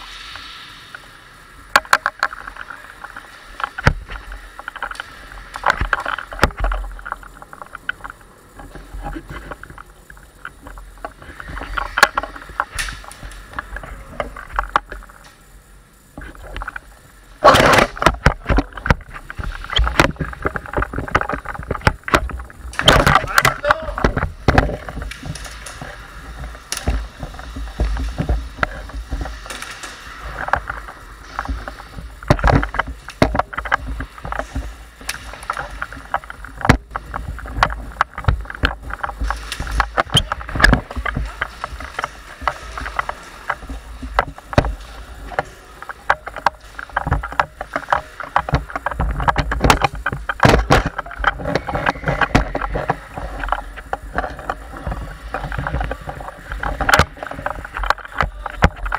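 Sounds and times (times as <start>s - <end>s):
gear knocks and rustling: 1.6s - 58.9s.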